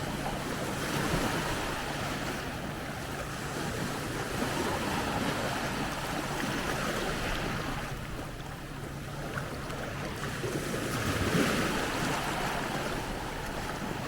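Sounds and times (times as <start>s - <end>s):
waves lapping on beach: 0.0s - 14.0s
wind: 0.0s - 14.0s.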